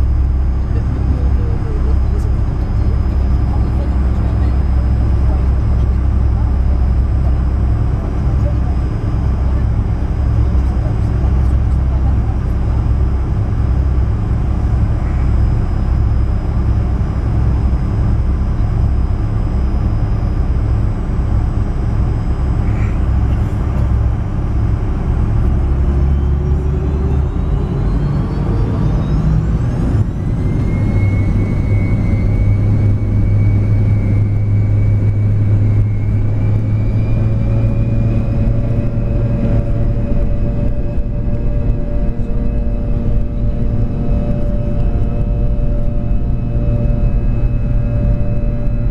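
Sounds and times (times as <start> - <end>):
jet engines from inside cabin: 0.0 - 48.9.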